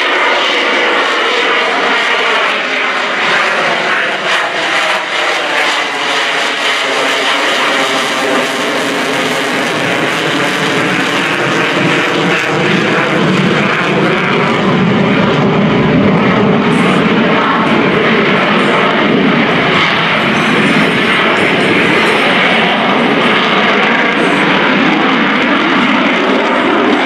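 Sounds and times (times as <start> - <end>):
jet engine in afterburner: 0.0 - 27.0.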